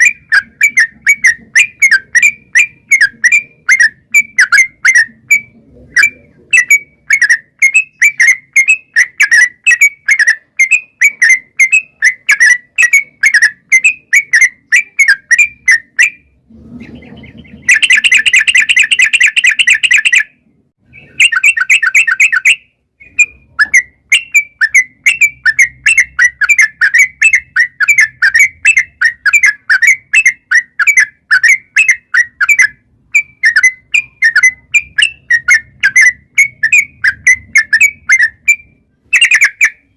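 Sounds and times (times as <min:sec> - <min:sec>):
bulbul chirping: 0:00.0 - 0:39.9
harsh buzzy bird chattering: 0:00.0 - 0:39.9.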